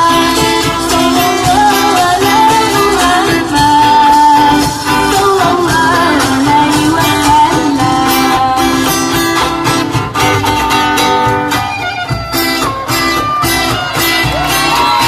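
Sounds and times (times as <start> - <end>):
guitar: 0.0 - 15.0
live band music: 0.0 - 15.0.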